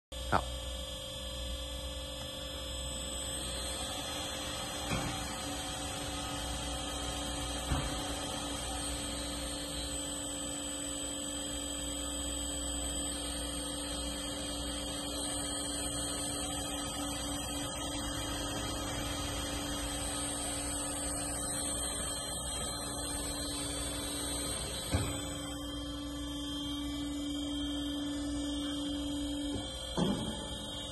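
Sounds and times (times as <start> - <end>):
faint high whine: 0.2 - 30.9
band saw humming: 1.2 - 30.9.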